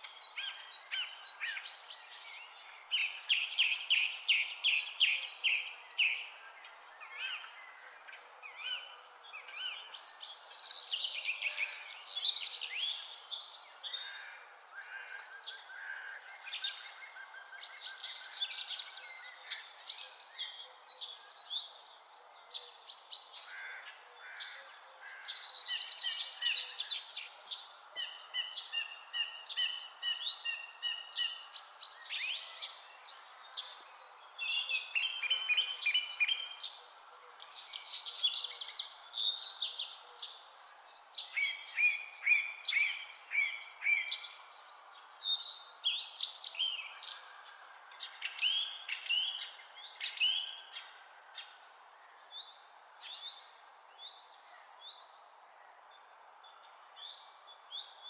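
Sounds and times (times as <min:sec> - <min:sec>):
songbirds singing and calling: 0:00.0 - 0:58.0.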